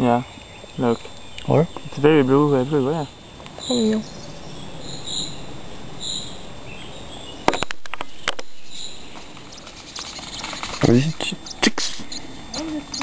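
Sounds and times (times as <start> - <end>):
outdoor background hiss: 0.0 - 13.0
small bird chirping: 0.0 - 13.0.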